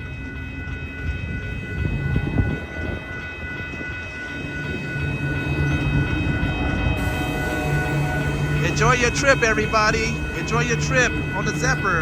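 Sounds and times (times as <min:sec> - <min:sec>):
passenger train rumbling: 0:00.0 - 0:12.0.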